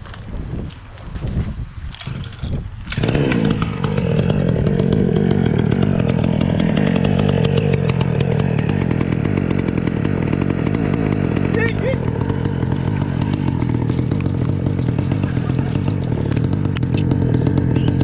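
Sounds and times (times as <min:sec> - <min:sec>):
two-stroke engine running: 0:02.9 - 0:18.0.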